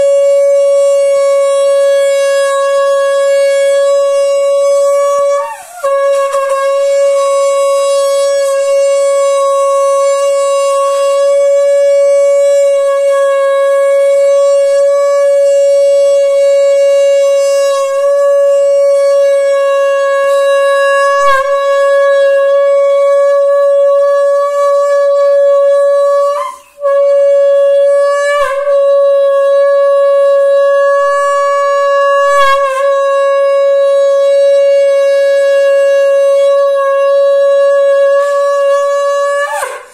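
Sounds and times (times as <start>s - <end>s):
conch shell blown: 0.0s - 39.9s.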